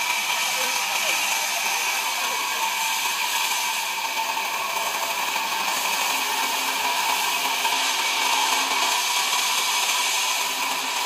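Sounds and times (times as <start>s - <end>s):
band saw whine and hiss: 0.0s - 11.0s.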